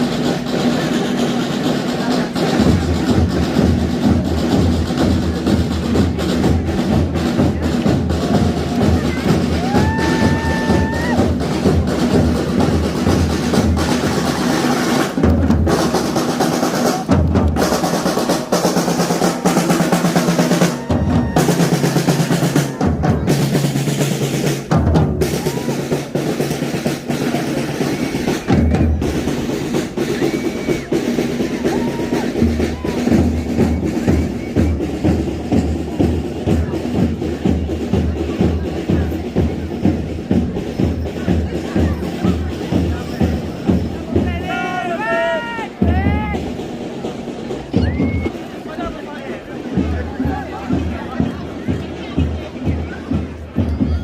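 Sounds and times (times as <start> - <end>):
bass drum beats: 0.0 - 44.6, 45.8 - 48.4
snare drum rolls: 0.0 - 54.0.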